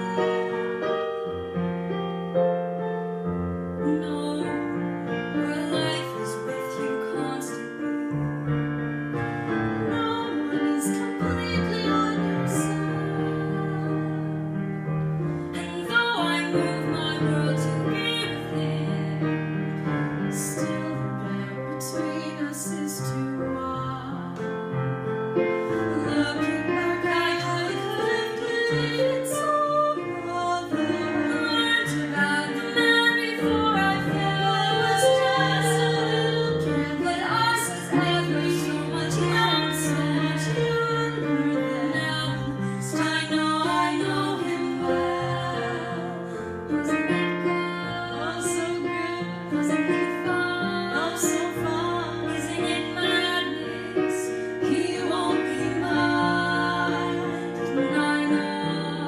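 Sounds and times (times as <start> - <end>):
two women singing a ballad: 0.0 - 1.3, 3.8 - 8.1, 9.8 - 24.8, 25.6 - 59.0
piano accompaniment: 0.0 - 59.0.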